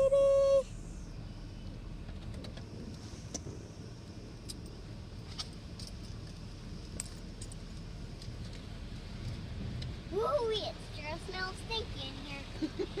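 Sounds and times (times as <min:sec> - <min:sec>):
car wash low rumble: 0:00.0 - 0:13.0.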